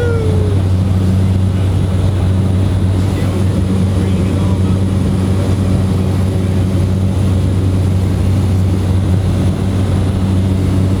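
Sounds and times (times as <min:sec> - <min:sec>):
propeller aircraft engine droning: 0:00.0 - 0:11.0.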